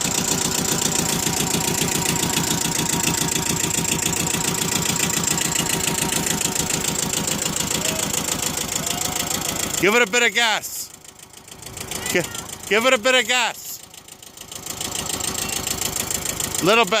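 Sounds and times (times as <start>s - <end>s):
tractor diesel engine chugging: 0.0s - 17.0s.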